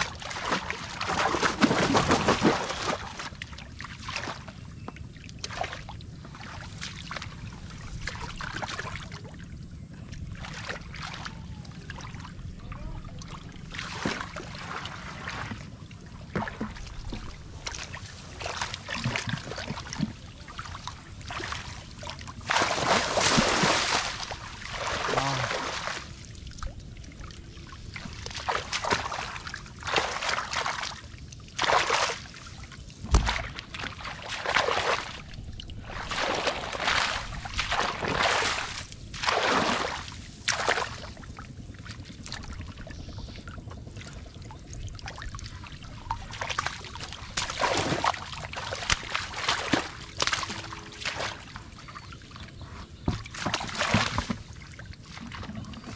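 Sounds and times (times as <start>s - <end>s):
muddy water splashing: 0.0s - 55.9s.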